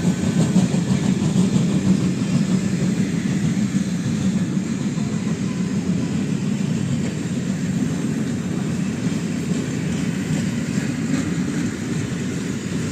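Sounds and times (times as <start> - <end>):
steam train rumbling past: 0.0 - 12.9.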